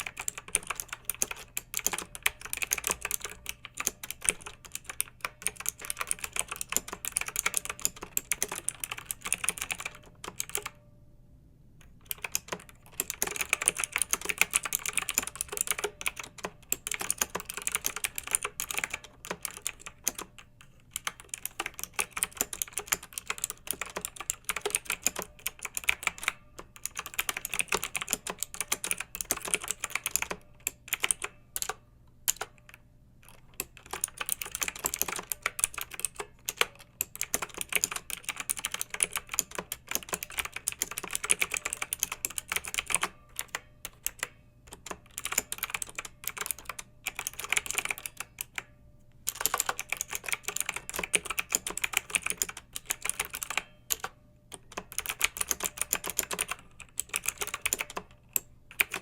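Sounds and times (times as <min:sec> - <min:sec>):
mechanical keyboard typing: 0:00.0 - 0:10.8, 0:11.8 - 0:59.0.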